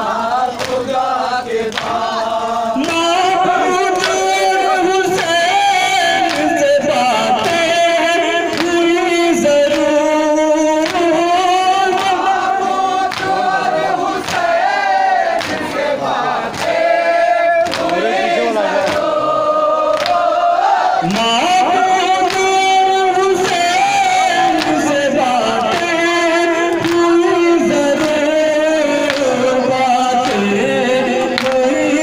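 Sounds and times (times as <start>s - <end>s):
voices singing together: 0.0s - 32.0s.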